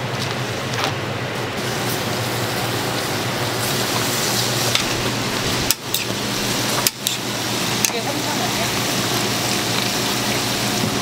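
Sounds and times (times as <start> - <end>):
food sizzling in oil: 1.6 - 11.0.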